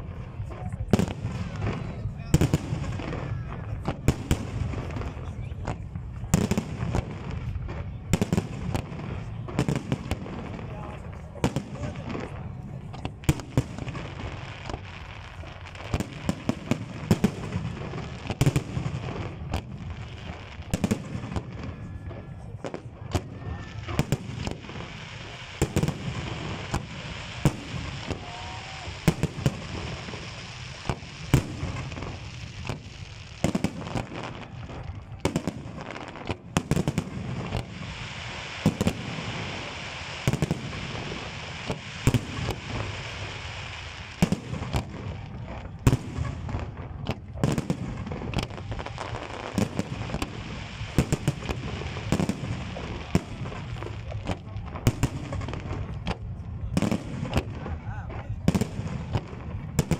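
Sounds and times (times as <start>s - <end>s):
firework crackling: 0.0s - 59.9s.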